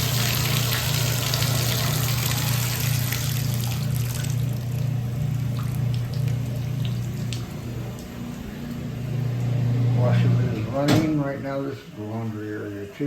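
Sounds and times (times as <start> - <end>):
low steady hum: 0.0 - 13.0
water running: 0.0 - 13.0.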